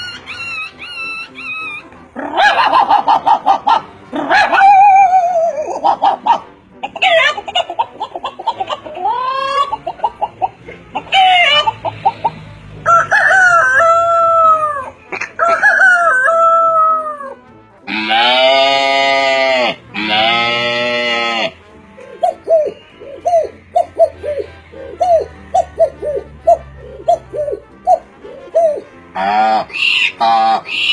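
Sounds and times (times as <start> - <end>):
man imitating animal calls: 0.0 - 30.9.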